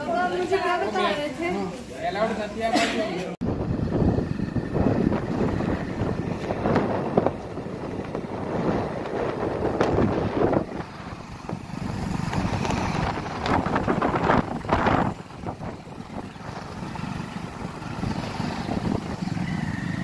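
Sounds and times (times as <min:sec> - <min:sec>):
road noise: 0:00.0 - 0:20.0
motorcycle engine: 0:03.4 - 0:20.0
wind buffeting microphone: 0:03.4 - 0:20.0.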